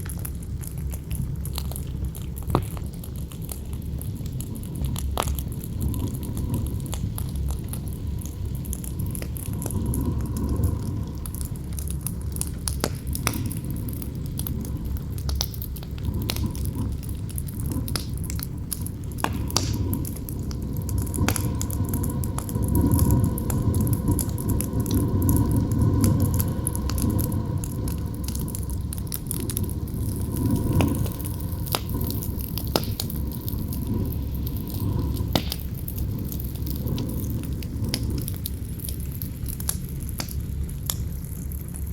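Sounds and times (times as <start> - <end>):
campfire crackling and popping: 0.0 - 41.9
strong wind howling: 4.5 - 39.5.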